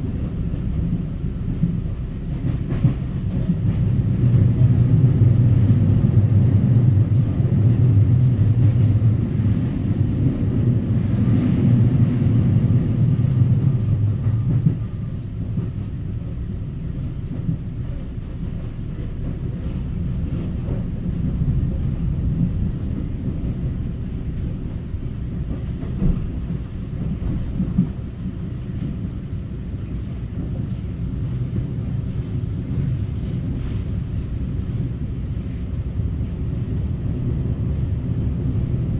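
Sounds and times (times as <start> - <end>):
train interior rumble: 0.0 - 38.9.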